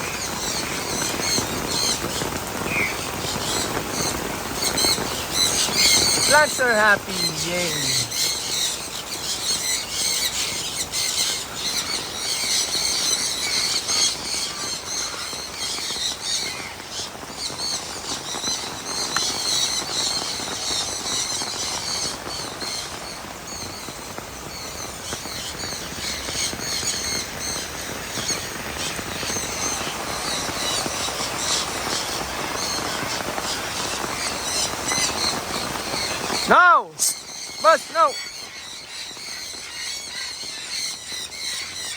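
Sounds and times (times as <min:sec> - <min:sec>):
birds giving short high calls: 0:00.0 - 0:41.9
hard rain falling: 0:00.0 - 0:41.9.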